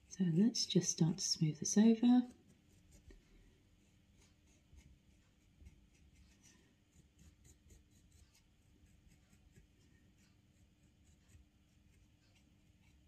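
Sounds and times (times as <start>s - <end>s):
clay tool scratching clay: 2.1s - 13.0s.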